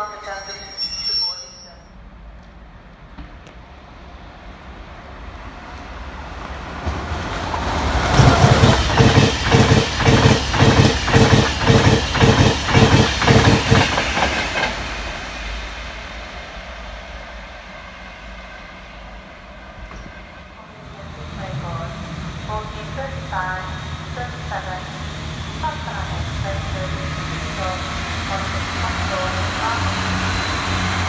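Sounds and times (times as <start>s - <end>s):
train passing at speed: 1.9s - 31.0s.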